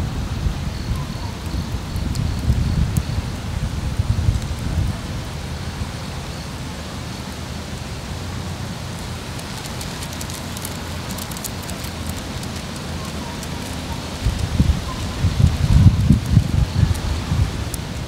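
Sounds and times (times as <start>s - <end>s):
wind rumble on microphone: 0.0s - 18.0s
wood fire crackling: 0.4s - 18.0s.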